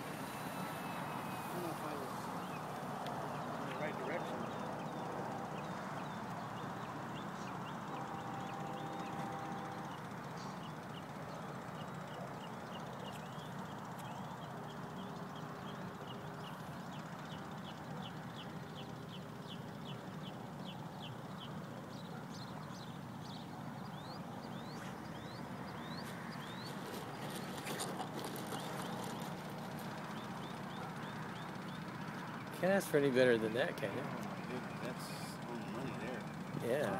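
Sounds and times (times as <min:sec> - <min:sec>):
distant model plane motor hum: 0:00.0 - 0:36.9
outdoor background noise: 0:00.0 - 0:36.9.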